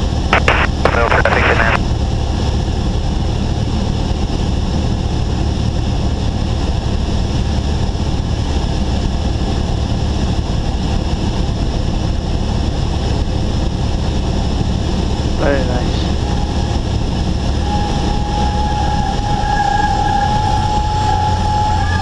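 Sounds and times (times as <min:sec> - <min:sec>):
propeller engine idling: 0:00.0 - 0:22.0.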